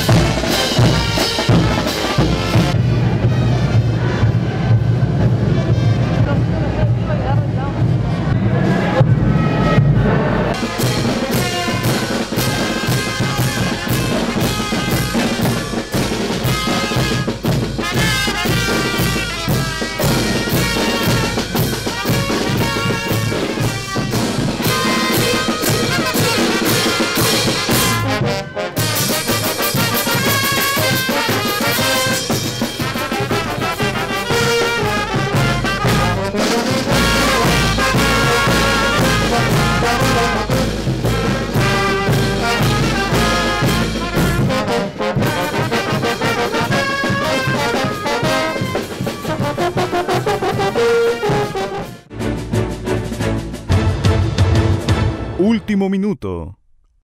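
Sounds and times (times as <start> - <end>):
trumpets and trombones: 0.0 - 55.7
drums: 0.0 - 56.6.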